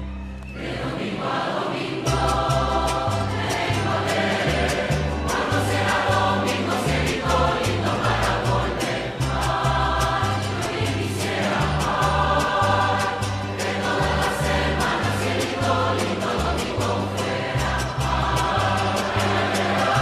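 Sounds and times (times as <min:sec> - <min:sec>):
mariachi band playing: 0:00.0 - 0:20.0
large choir singing: 0:00.4 - 0:20.0.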